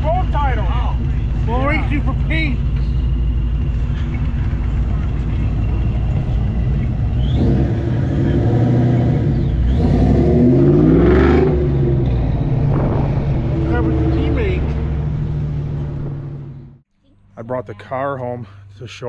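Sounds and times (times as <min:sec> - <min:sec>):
car engine accelerating: 0:00.0 - 0:16.8.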